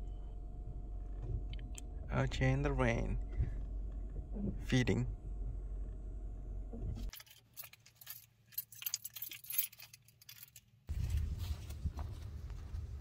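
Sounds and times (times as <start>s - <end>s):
low rumble inside car cabin: 0.0s - 9.6s, 10.9s - 13.0s
low outdoor rumble: 0.0s - 13.0s.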